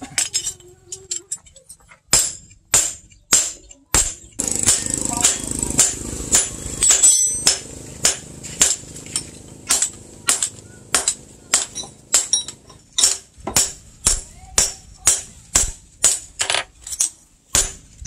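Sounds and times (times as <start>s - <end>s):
hammer striking metal on anvil: 2.1s - 16.6s.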